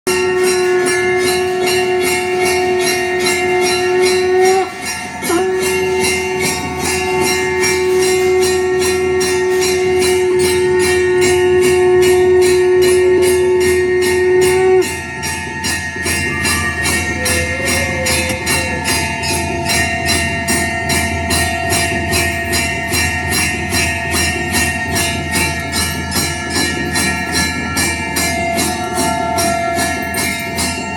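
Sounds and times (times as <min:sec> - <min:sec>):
music with jingling beat: 0:00.0 - 0:30.9.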